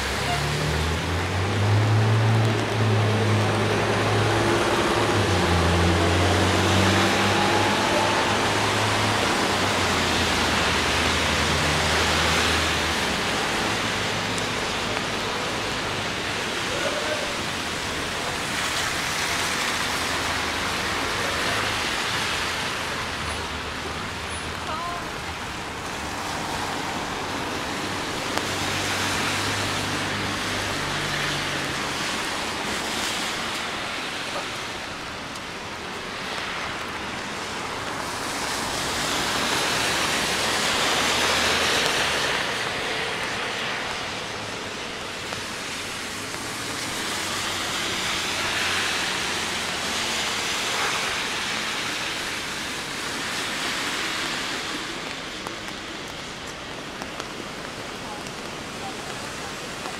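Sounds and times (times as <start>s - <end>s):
steady rain: 0.0s - 59.9s
tyres hissing on wet pavement: 0.0s - 59.9s.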